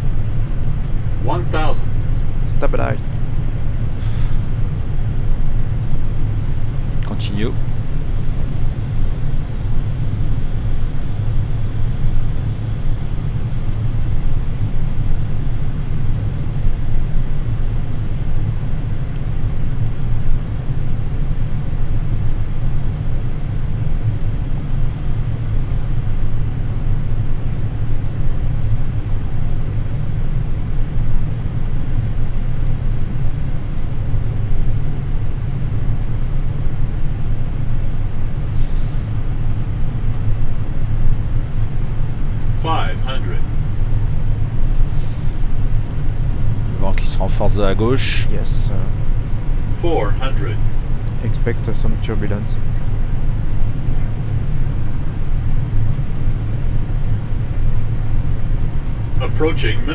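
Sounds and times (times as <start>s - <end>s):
cockpit airflow and engine rumble: 0.0s - 59.9s.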